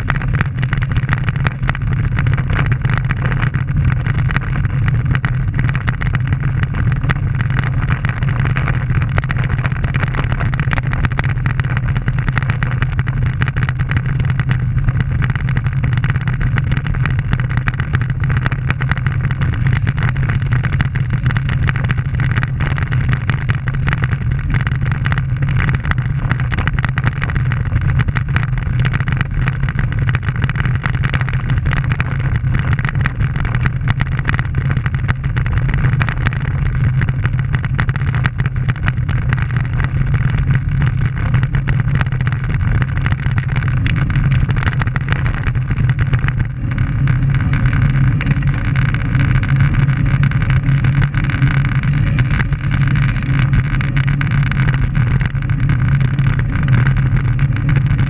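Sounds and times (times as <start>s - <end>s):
vehicle running drone: 0.0s - 58.0s
wind rush: 0.0s - 58.0s.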